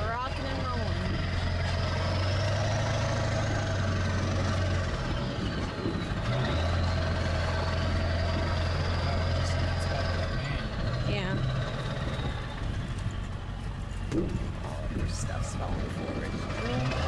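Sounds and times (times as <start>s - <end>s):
truck engine from inside cab: 0.0s - 17.0s.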